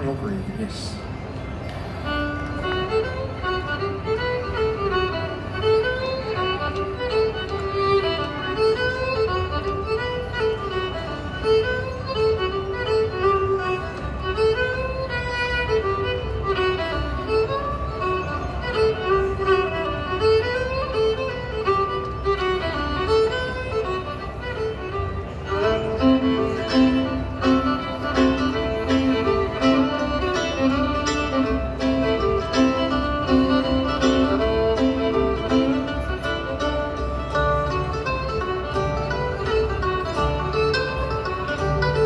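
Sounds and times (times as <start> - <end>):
bluegrass band playing: 0.0 - 42.0
fiddle melody: 0.0 - 42.0.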